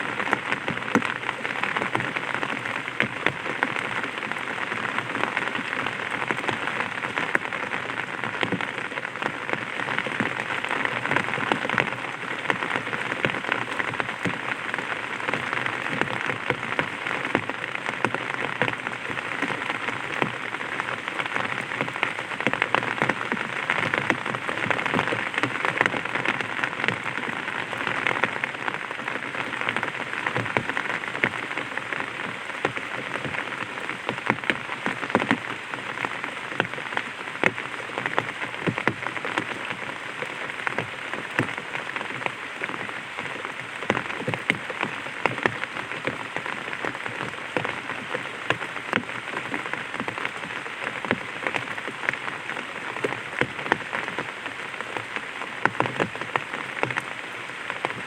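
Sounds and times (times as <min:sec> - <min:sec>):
light rain on umbrella: 0:00.0 - 0:58.0.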